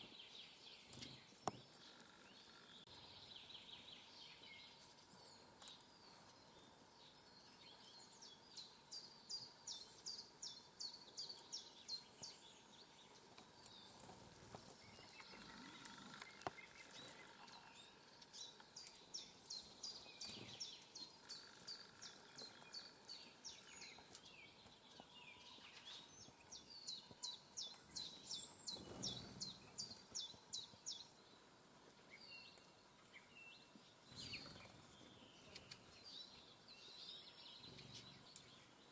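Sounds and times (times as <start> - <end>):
faint outdoor background noise: 0.0 - 38.9
songbird singing: 0.0 - 38.9.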